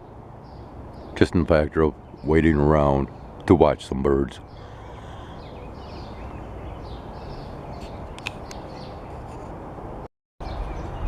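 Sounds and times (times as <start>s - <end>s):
distant bird chirps: 0.0s - 9.6s, 10.4s - 11.0s
background hum: 0.0s - 11.0s.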